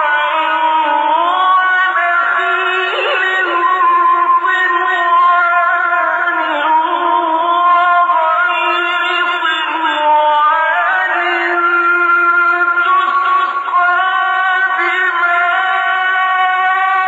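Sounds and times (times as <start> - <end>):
man chanting in high voice: 0.0 - 17.0.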